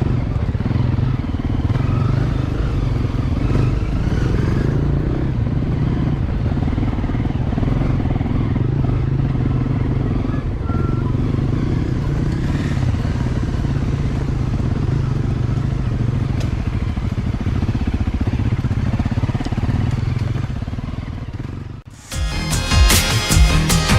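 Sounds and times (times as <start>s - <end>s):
dirt bike engine running: 0.0s - 23.9s.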